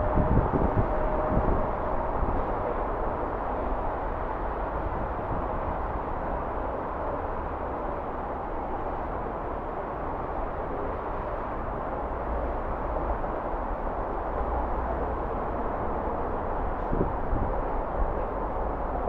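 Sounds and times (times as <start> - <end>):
city road traffic hum: 0.0 - 19.0.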